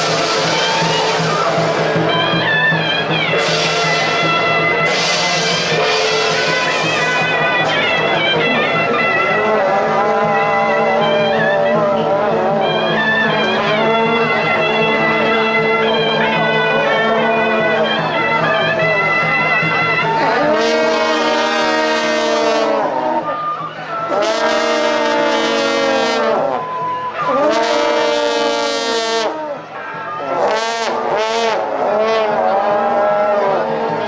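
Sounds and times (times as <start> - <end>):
procession horns blowing: 0.0 - 34.0.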